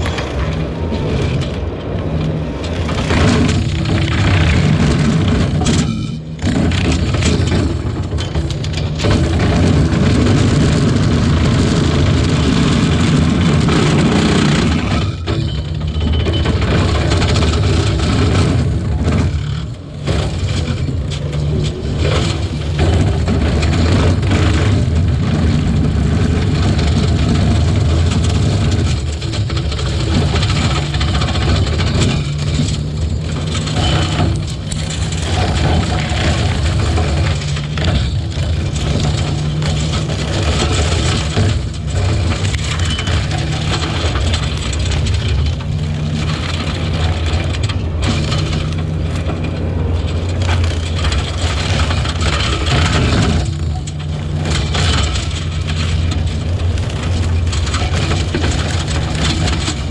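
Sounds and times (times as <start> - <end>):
vehicle engine under load: 0.0 - 59.9.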